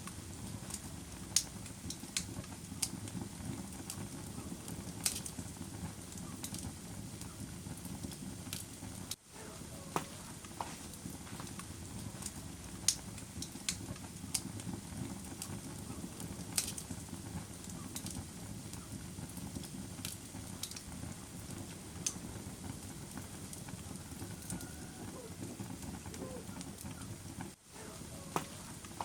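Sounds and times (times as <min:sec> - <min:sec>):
fire crackles and pops: 0:00.0 - 0:29.0
low rumble of flames: 0:00.0 - 0:29.0.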